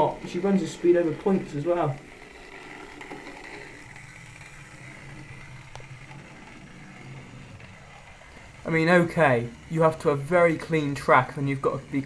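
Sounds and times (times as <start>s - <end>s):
model locomotive motor whirring: 0.0s - 12.0s.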